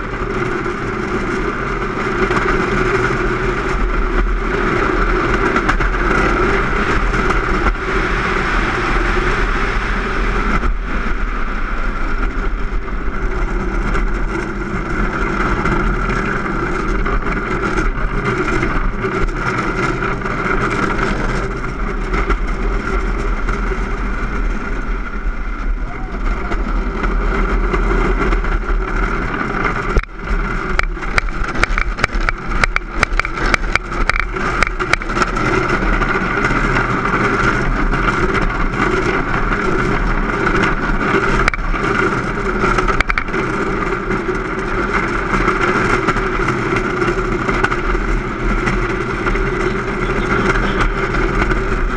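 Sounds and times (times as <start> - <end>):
cart rattling and knocking: 0.0 - 11.2, 11.9 - 51.9
hard wheels rumbling on asphalt: 0.0 - 51.9
wind noise: 0.0 - 51.9.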